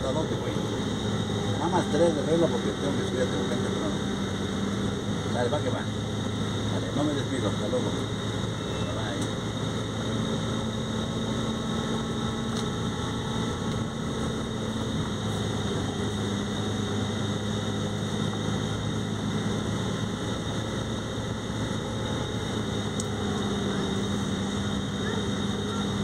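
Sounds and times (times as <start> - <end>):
road noise: 0.0 - 26.0
vehicle engine drone: 0.0 - 26.0.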